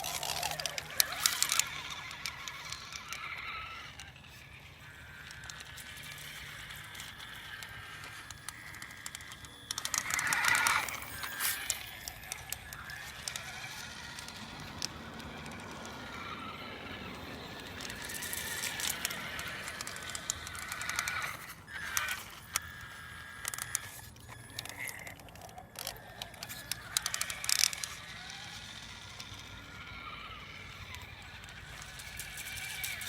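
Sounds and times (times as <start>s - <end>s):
electric motor whining: 0.0s - 33.0s
tyres crackling over rough ground: 0.0s - 33.0s.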